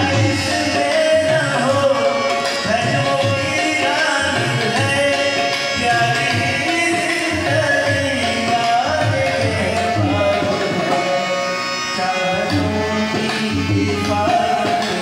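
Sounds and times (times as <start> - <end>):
harmonium sustained notes: 0.0 - 15.0
man singing into a microphone: 0.0 - 15.0
tabla rhythm: 0.0 - 15.0.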